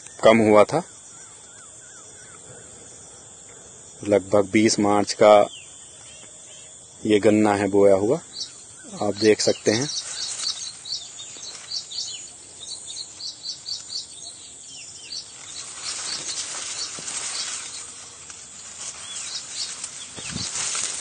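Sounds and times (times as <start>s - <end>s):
falling bird-like calls: 0.0s - 4.2s, 7.7s - 21.0s
rustling hiss: 2.2s - 21.0s.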